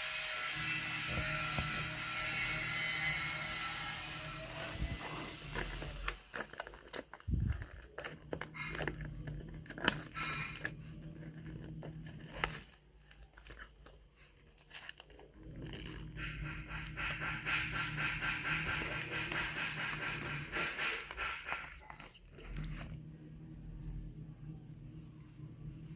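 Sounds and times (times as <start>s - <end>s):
crinkling: 0.5s - 24.0s
crunching and chewing: 0.9s - 24.1s.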